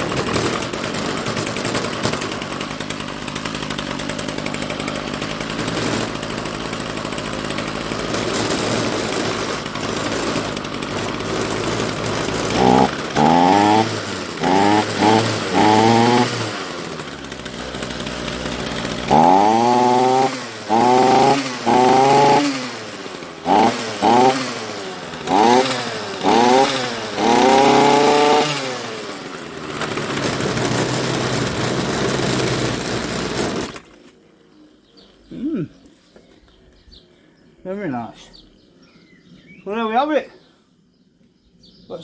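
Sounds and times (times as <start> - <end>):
strimmer engine revving: 0.0 - 34.2.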